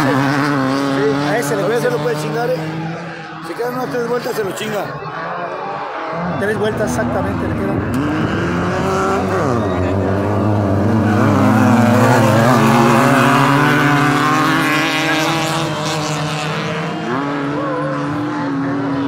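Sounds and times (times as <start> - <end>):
race buggy engines running hard: 0.0 - 19.0.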